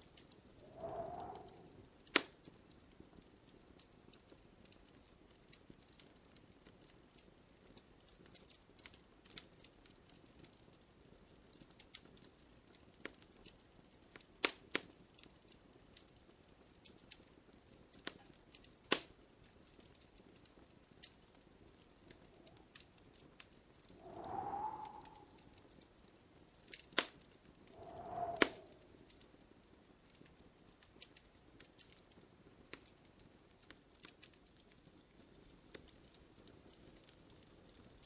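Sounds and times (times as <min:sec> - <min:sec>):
faint fire hiss: 0:00.0 - 0:38.0
wood fire crackling: 0:00.0 - 0:38.0.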